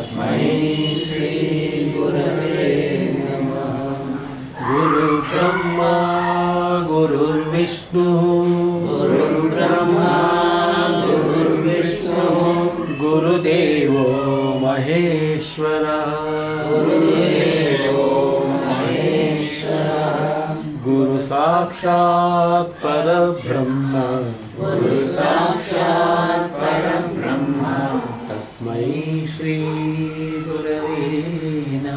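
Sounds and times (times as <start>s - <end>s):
man chanting verses: 2.9s - 25.9s, 27.1s - 31.9s.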